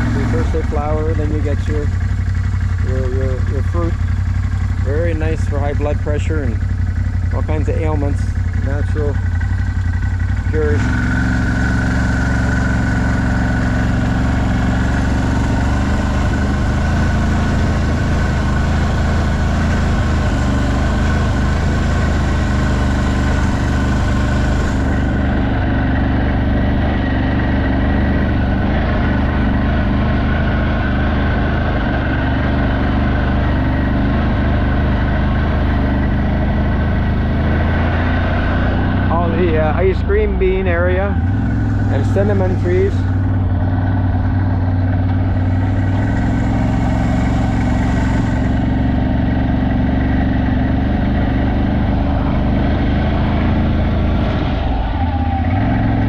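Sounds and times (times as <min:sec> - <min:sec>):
engine running at low speed: 0:00.0 - 0:56.0.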